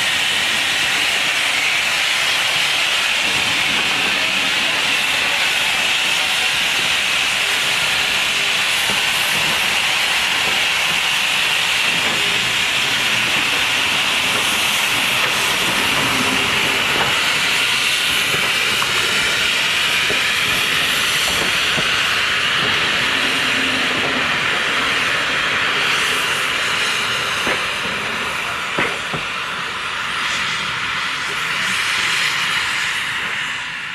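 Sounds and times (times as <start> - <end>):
steam locomotive hissing: 0.0 - 33.9.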